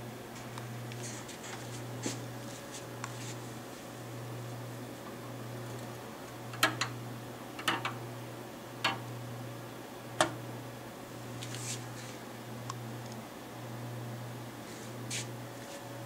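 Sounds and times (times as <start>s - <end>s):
turntable low hum: 0.0s - 16.0s.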